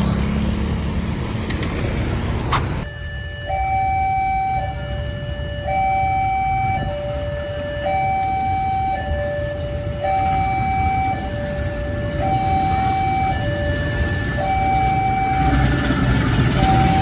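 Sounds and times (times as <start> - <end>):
level crossing warning siren: 2.8 - 17.0.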